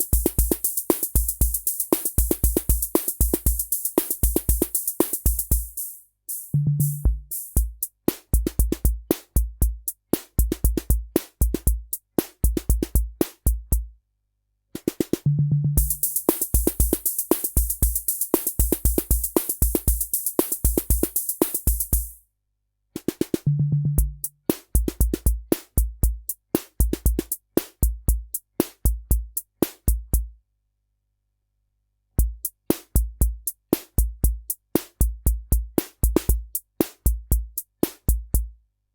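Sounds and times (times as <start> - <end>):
drum machine rhythm: 0.0 - 13.9, 15.8 - 22.2, 24.0 - 30.3, 32.2 - 38.5.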